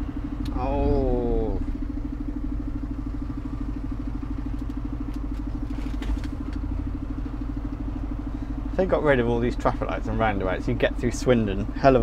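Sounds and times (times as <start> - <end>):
lorry diesel engine idling: 0.0 - 12.0.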